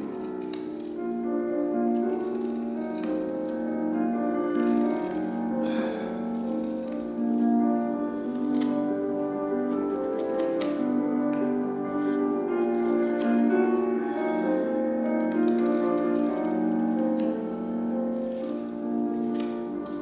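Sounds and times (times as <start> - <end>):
piano chords and held notes: 0.0 - 20.0.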